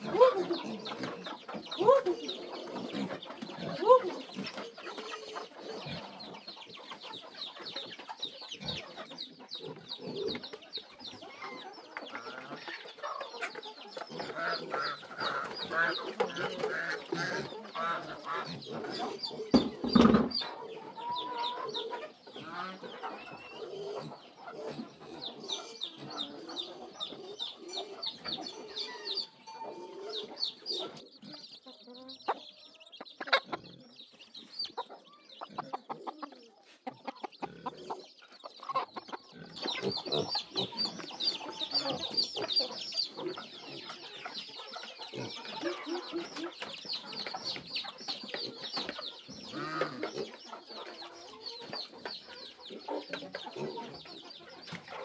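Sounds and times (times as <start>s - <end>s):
chicks peeping: 0.0s - 55.0s
hen clucking: 0.0s - 55.0s.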